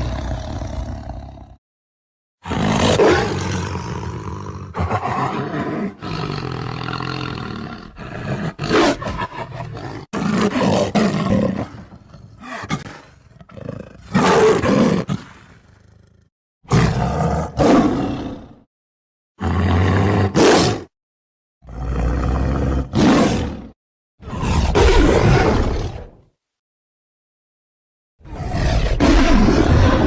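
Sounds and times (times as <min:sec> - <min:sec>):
tiger roaring and growling: 0:00.0 - 0:01.6, 0:02.4 - 0:18.7, 0:19.4 - 0:20.9, 0:21.6 - 0:26.2, 0:28.2 - 0:30.0.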